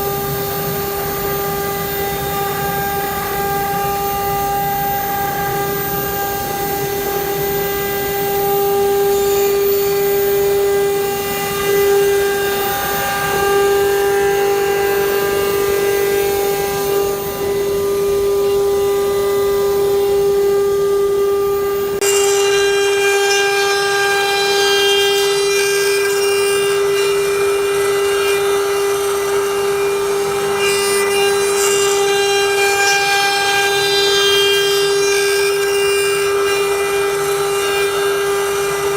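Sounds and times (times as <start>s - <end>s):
router spindle high-pitched whine: 0.0s - 38.9s.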